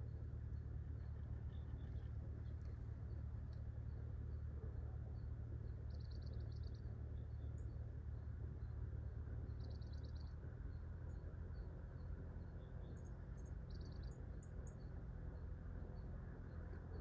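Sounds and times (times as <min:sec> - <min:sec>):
low outdoor rumble: 0:00.0 - 0:17.0
small birds chirping: 0:01.0 - 0:08.7, 0:09.4 - 0:17.0.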